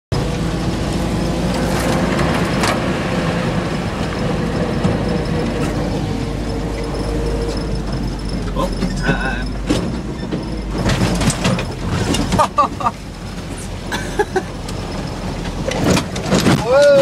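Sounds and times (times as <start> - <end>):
vehicle engine drone with whine: 0.1 - 17.0
vehicle body rattles: 0.2 - 17.0.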